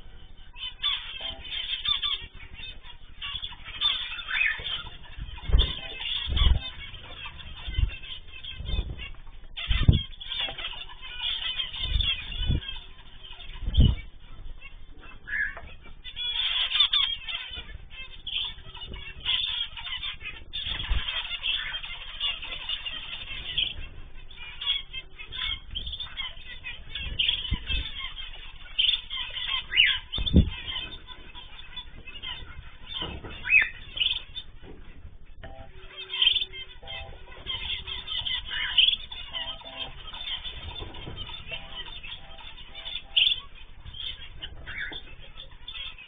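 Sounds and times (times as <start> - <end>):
finches chattering: 0.0 - 46.0.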